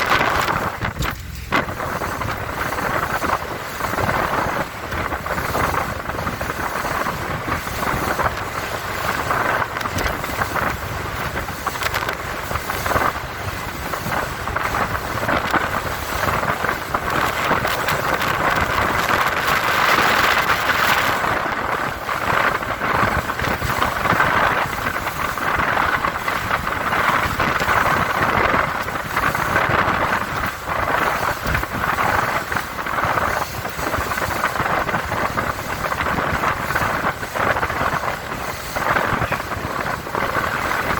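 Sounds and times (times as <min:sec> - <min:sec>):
boat engine: 0:00.0 - 0:40.9
water noise: 0:00.0 - 0:40.9
wind buffeting microphone: 0:00.0 - 0:40.9.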